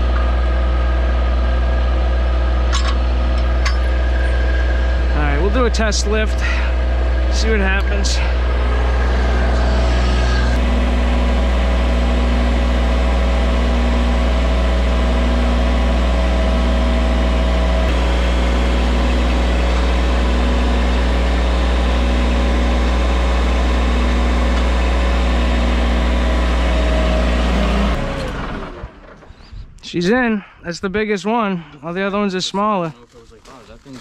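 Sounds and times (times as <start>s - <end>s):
loader engine running: 0.0s - 30.6s.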